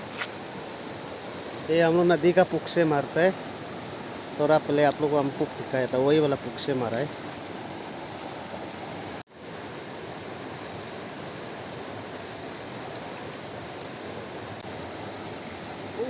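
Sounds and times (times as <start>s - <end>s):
river water flowing over stones: 0.0s - 16.0s.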